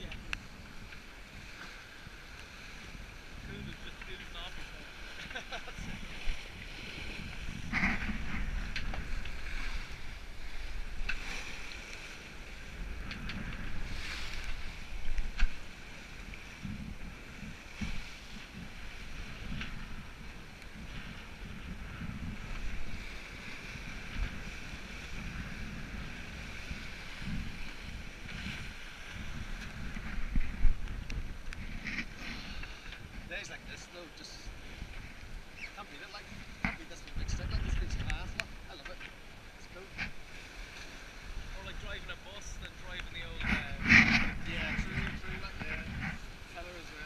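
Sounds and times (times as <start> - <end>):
water rushing along hull: 0.0 - 47.0
wind buffeting microphone: 0.0 - 47.0.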